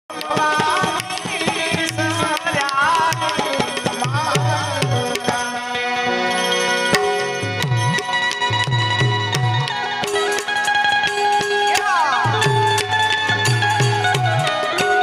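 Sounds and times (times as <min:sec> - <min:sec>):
tabla drumming: 0:00.1 - 0:15.0.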